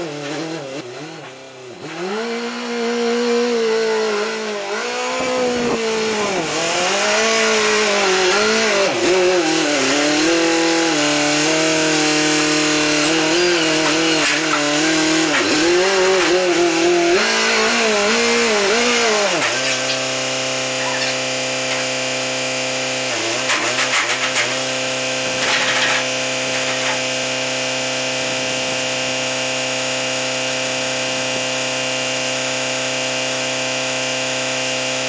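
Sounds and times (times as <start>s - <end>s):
engine revving and idling: 0.0s - 35.0s.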